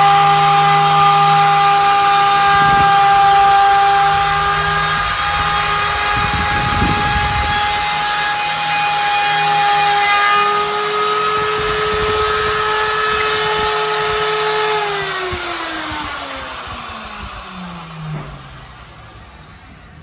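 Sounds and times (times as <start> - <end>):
spindle motor whining: 0.0 - 20.0.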